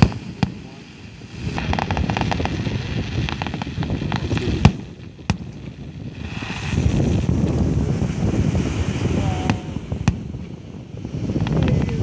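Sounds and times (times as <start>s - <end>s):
fireworks crackling pops: 0.0s - 12.0s
fireworks sharp bang: 0.0s - 12.0s.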